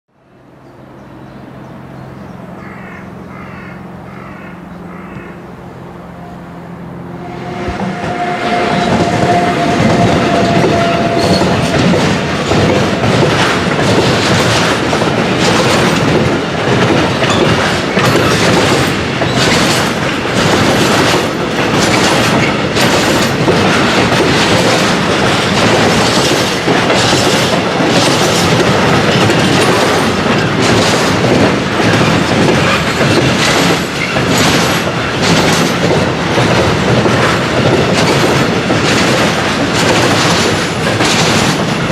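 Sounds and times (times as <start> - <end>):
freight train rolling past: 0.2 - 41.9
wagons clattering and rattling: 8.0 - 41.9.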